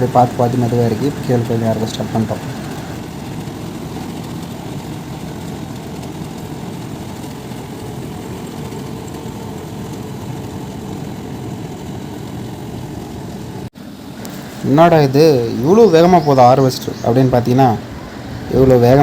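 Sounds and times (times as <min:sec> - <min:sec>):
combine harvester engine running: 0:00.0 - 0:19.0.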